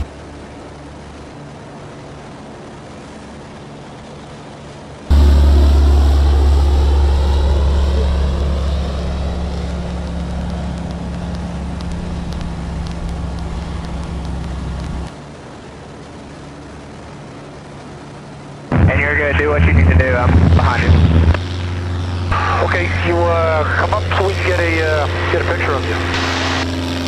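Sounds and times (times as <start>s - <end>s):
plane flying past overhead: 0.0s - 15.1s, 18.7s - 27.0s
engine drone inside cockpit: 0.0s - 27.0s.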